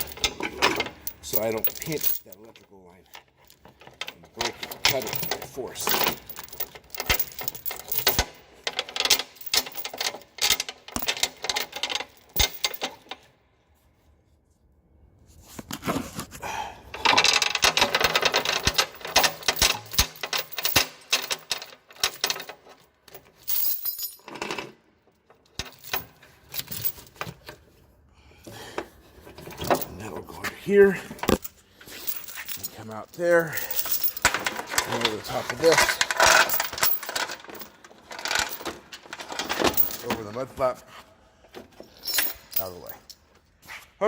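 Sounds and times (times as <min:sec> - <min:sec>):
steel chain clinking and rattling: 0:00.0 - 0:13.3, 0:16.9 - 0:27.6, 0:29.3 - 0:30.1, 0:30.7 - 0:40.8, 0:41.7 - 0:43.5.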